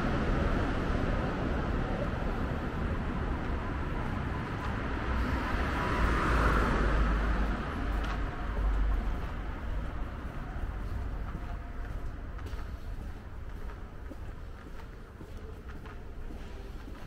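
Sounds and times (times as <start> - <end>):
vehicle noise low rumble: 0.0 - 17.0.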